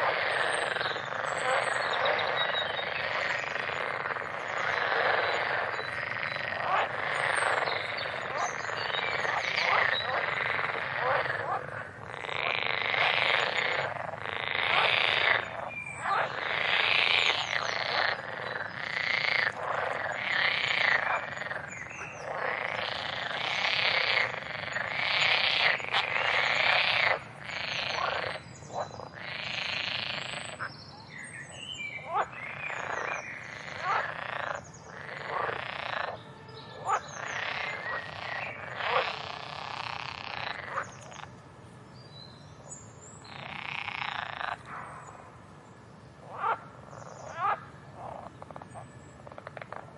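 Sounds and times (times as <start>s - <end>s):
frogs croaking: 0.0s - 49.9s.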